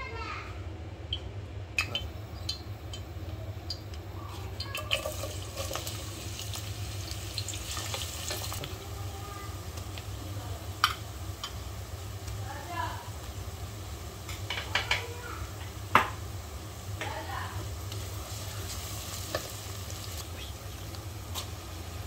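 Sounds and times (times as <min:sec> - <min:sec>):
onions sizzling in hot oil: 0:02.0 - 0:22.0.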